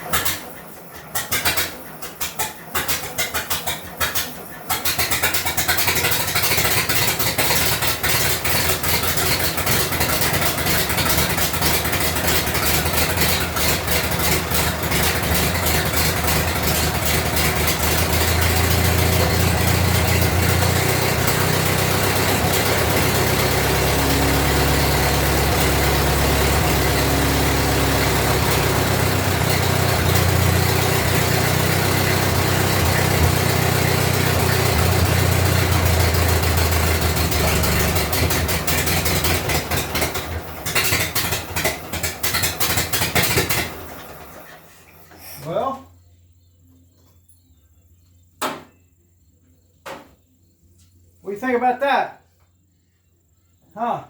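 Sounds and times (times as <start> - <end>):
old car engine running unmuffled: 0.0 - 45.2.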